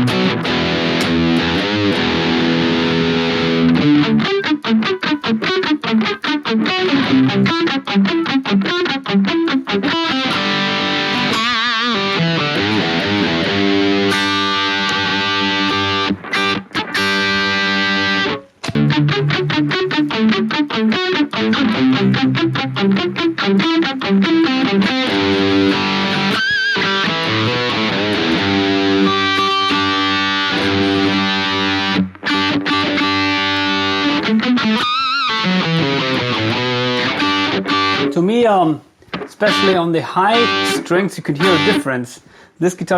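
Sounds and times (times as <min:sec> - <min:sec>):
distorted electric guitar: 0:00.0 - 0:42.0.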